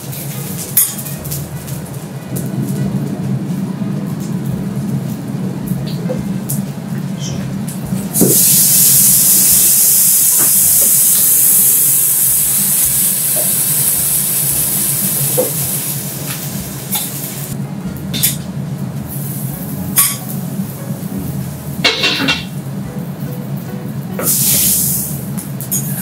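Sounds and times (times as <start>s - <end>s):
water hissing on hot griddle: 0.0s - 18.4s, 19.0s - 22.7s, 24.2s - 26.0s.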